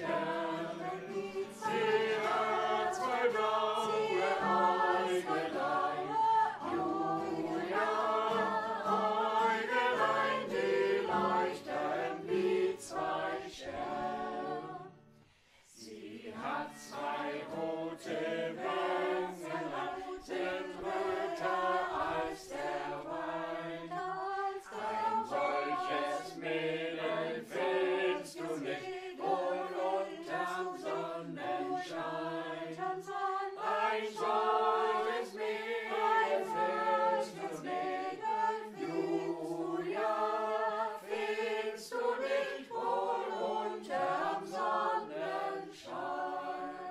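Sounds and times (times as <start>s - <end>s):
choir singing folk song: 0.0s - 46.9s.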